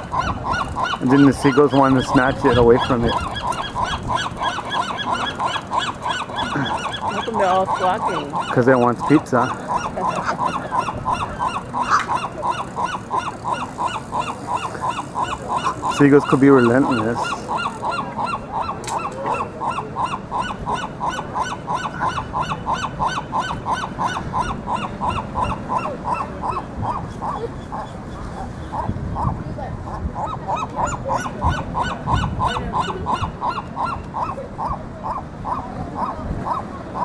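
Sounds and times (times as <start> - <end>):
seagulls squawking: 0.0 - 37.0.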